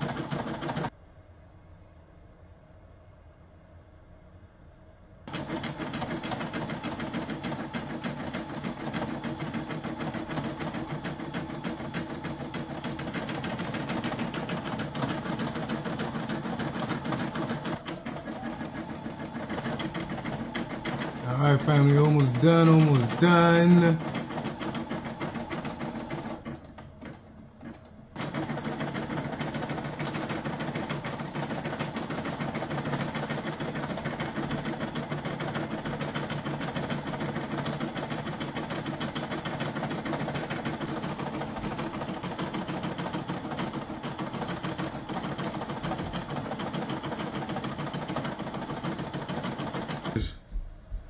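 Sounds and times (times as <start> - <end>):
embroidery machine stitching: 0.0 - 0.9, 5.3 - 50.4.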